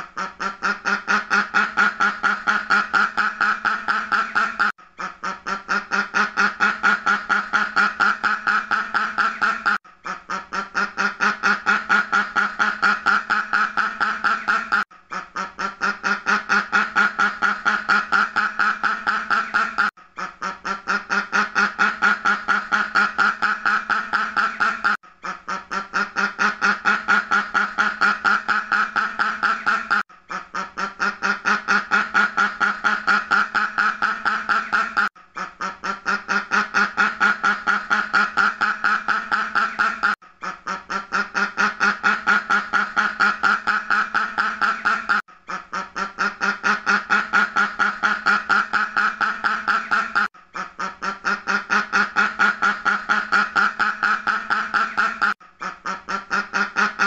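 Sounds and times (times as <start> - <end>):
duck quacking rapidly: 0.0 - 57.0.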